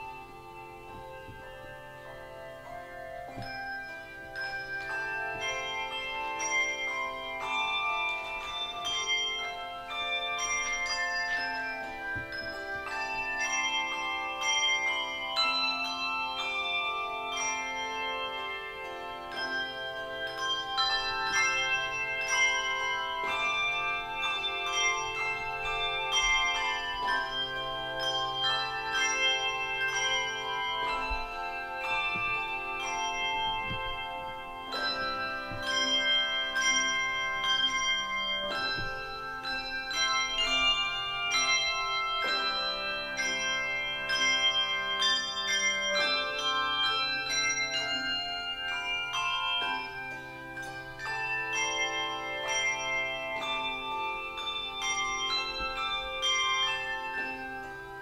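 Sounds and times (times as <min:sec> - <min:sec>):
handbell choir playing chords: 0:00.0 - 0:58.0.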